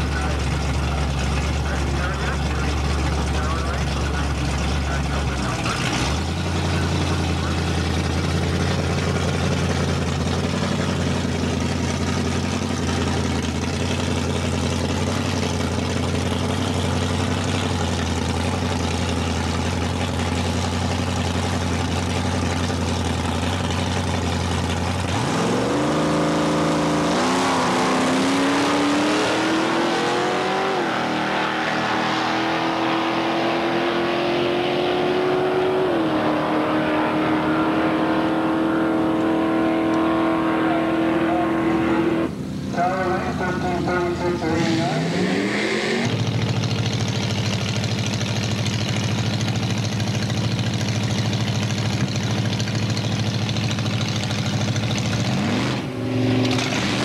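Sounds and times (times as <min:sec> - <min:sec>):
race car engines idling: 0:00.0 - 0:27.2, 0:28.0 - 0:57.0
race car engines revving: 0:00.0 - 0:57.0.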